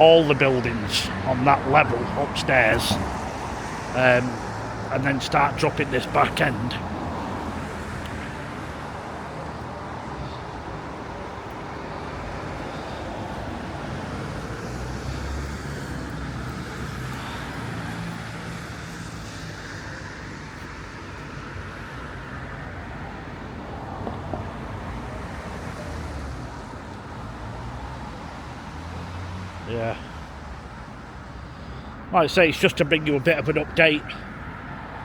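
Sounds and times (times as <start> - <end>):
engine hum and tyre noise: 0.0 - 35.0
road traffic passing: 0.0 - 35.0.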